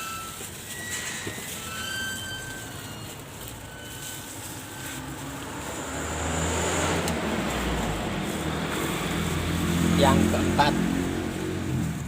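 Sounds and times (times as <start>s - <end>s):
vehicle engine rumbling past: 0.0s - 12.0s.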